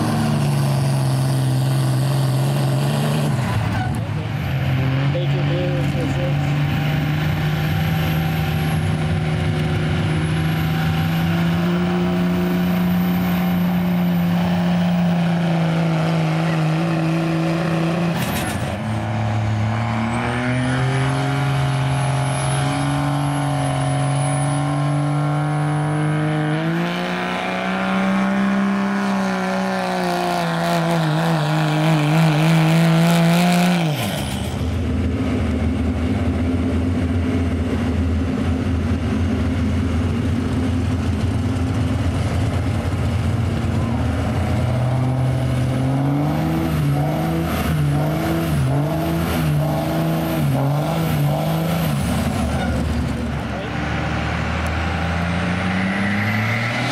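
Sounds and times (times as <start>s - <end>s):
diesel truck engines under load: 0.0s - 56.9s.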